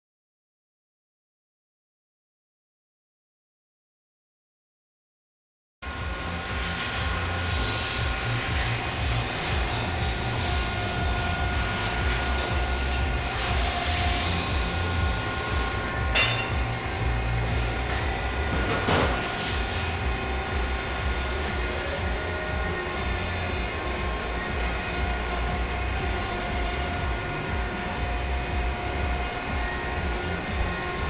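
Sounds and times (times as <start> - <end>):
lathe humming and whining: 5.8 - 31.0.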